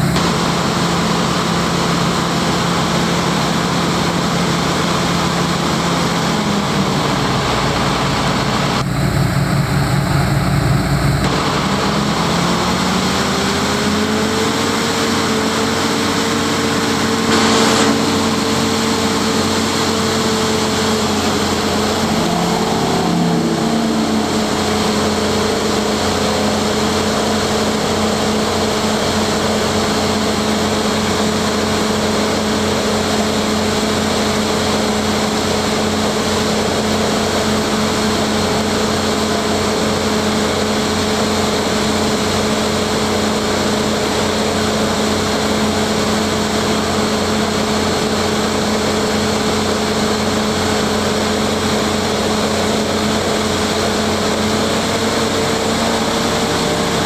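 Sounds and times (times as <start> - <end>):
pile hammer humming and whining: 0.0 - 57.0.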